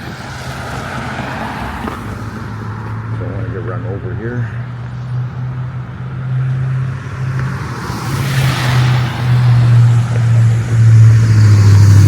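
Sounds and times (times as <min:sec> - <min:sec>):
car passing: 0:00.0 - 0:12.0
low traffic hum: 0:00.0 - 0:12.0.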